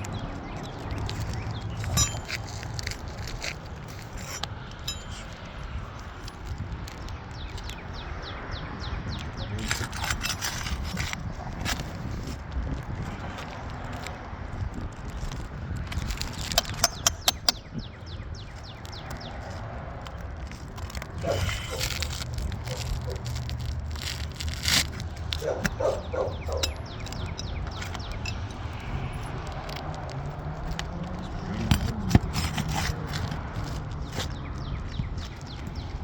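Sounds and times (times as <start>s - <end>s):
knocks and scraping: 0.0s - 7.8s, 9.4s - 14.1s, 14.7s - 36.0s.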